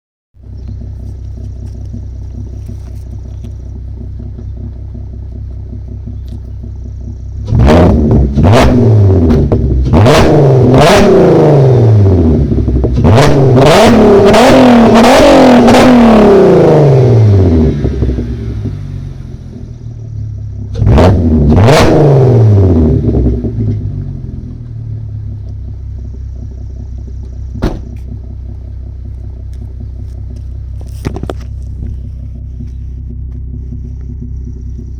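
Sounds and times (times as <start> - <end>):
car engine idling and revving: 0.4 - 34.9.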